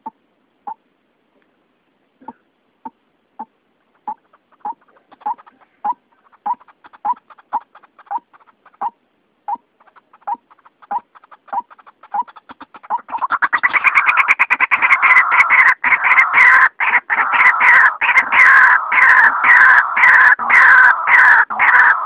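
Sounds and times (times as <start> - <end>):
waterhen calling: 0.0 - 0.9, 2.2 - 22.0.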